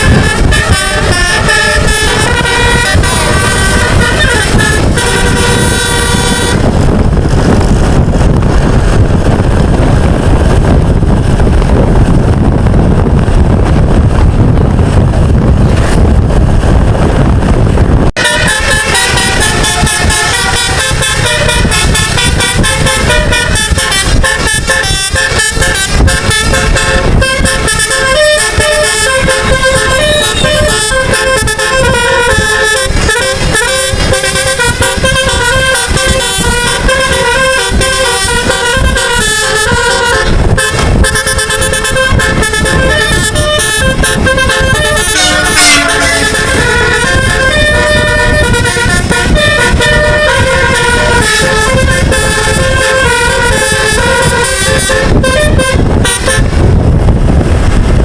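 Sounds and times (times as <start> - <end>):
bus musical air horn melody: 0.0 - 58.0
loud rumbling rush: 0.0 - 58.0.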